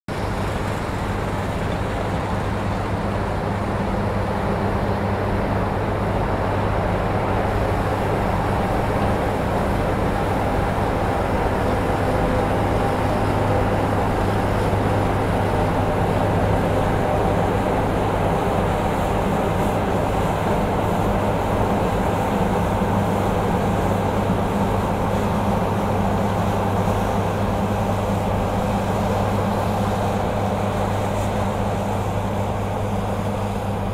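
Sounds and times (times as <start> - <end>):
combine harvester engine drone: 0.1 - 33.9.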